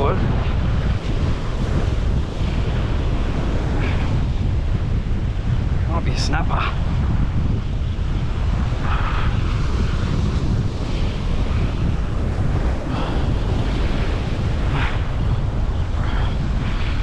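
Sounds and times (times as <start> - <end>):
surf washing against rocks: 0.0 - 17.0
wind buffeting microphone: 0.0 - 17.0.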